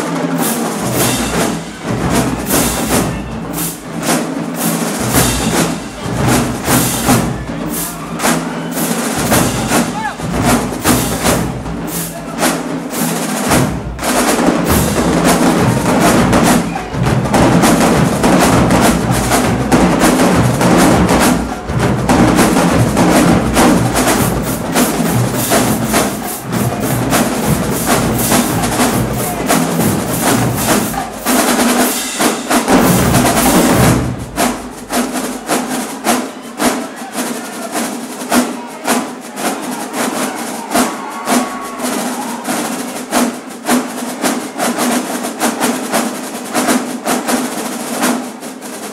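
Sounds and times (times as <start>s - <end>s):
drumline playing: 0.0s - 48.9s.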